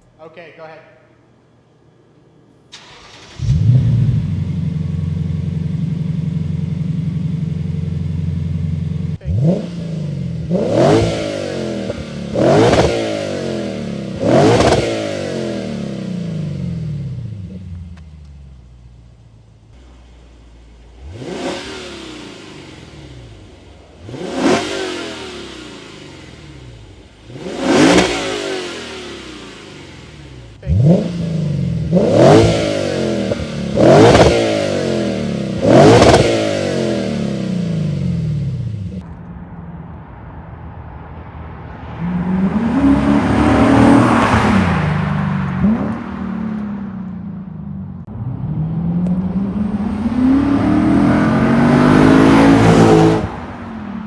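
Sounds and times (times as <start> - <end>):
car engine revving: 2.7 - 54.0.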